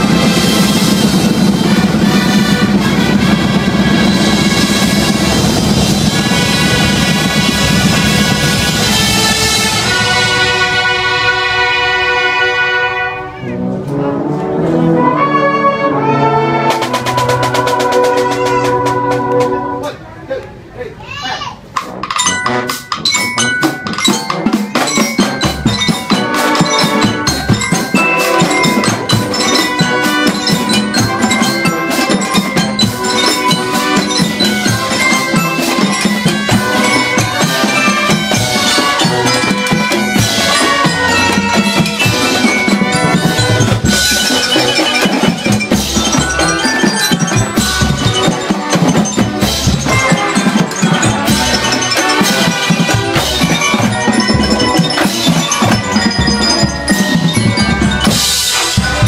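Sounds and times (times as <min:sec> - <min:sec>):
mallet percussion melody: 0:00.0 - 0:12.8, 0:16.7 - 0:19.9, 0:21.7 - 0:59.0
drums keeping busy rhythm: 0:00.0 - 0:59.0.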